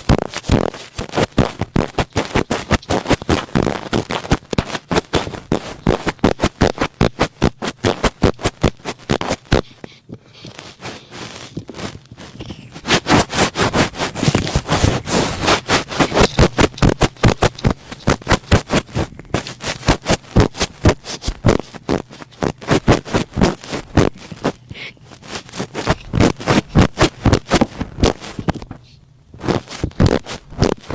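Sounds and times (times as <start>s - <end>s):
cotton swab rubbing microphone: 0.0s - 30.9s.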